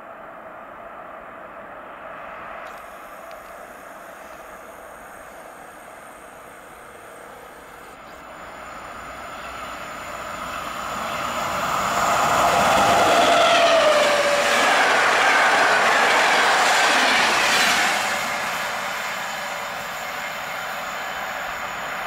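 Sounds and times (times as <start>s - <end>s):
passenger train passing: 0.0s - 22.0s.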